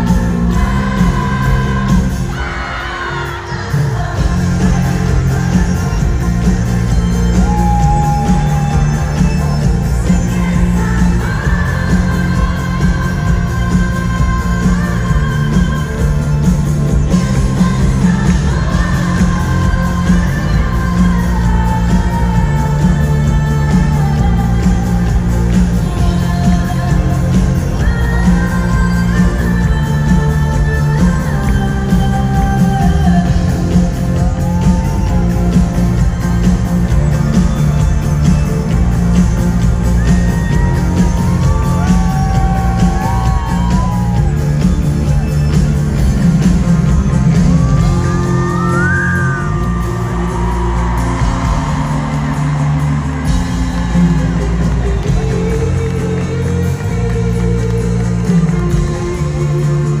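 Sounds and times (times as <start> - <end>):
electropop band playing live: 0.0 - 60.0
person singing: 0.0 - 60.0.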